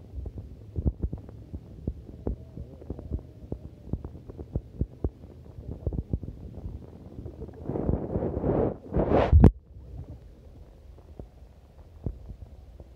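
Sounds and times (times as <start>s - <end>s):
low underwater rumble: 0.0s - 12.9s
muffled underwater thumps and clicks: 0.0s - 12.9s.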